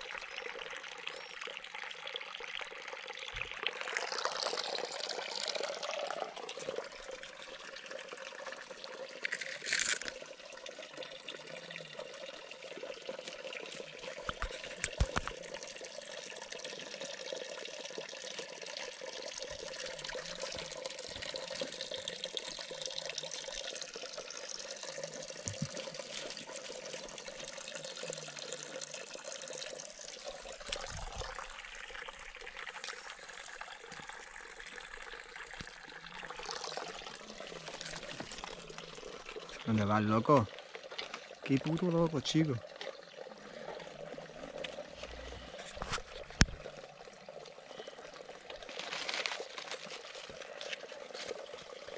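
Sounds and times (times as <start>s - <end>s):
water trickling into pond: 0.0s - 51.9s.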